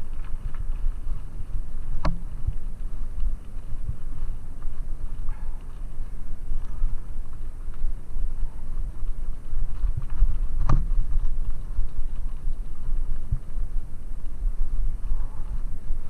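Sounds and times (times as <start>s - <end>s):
tyres crunching on gravel: 0.0s - 16.0s
wind buffeting microphone: 0.0s - 16.0s.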